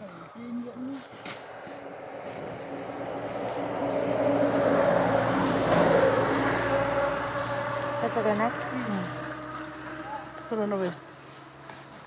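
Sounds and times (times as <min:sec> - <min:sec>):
engine running: 0:00.6 - 0:12.0.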